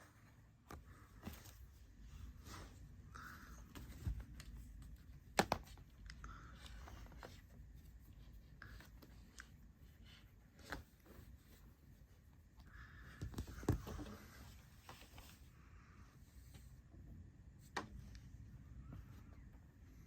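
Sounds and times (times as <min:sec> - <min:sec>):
cat rustling and scratching: 0:00.0 - 0:16.9.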